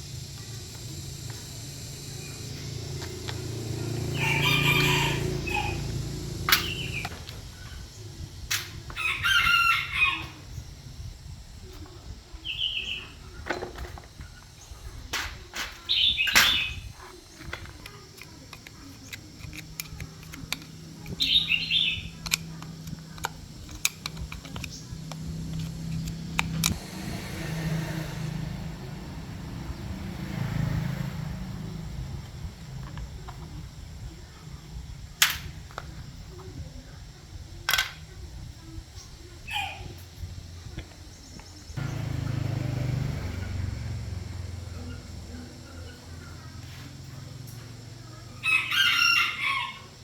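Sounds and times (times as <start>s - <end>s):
birds chirping: 0.0s - 37.6s, 38.6s - 50.0s.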